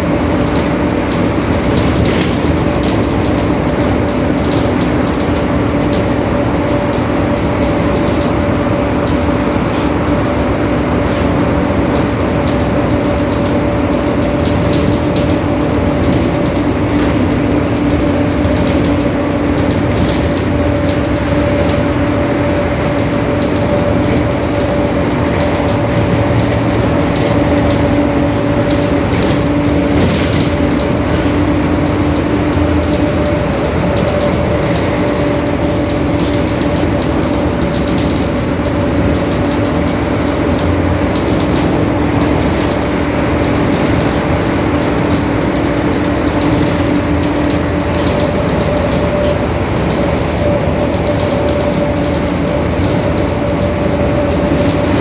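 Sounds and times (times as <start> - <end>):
bus diesel engine droning: 0.0 - 55.0
light ticks and rattles: 0.2 - 55.0.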